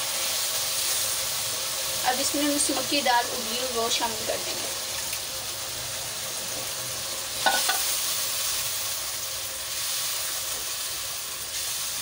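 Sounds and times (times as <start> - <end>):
curry sizzling in a wok: 0.0 - 12.0.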